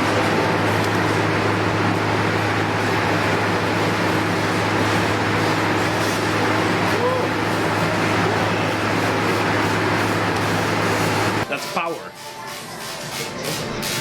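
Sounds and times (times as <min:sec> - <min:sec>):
machinery hum: 0:00.0 - 0:11.5.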